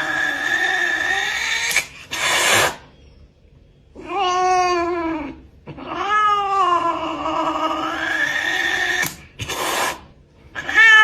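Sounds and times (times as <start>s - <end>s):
cat meowing: 0.0s - 2.8s, 4.0s - 11.0s.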